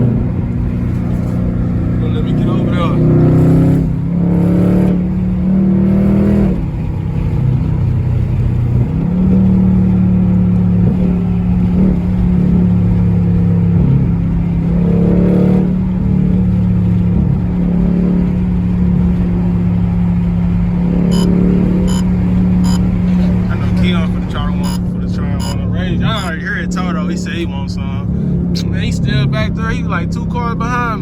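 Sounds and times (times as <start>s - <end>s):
car engine driving: 0.0s - 31.0s.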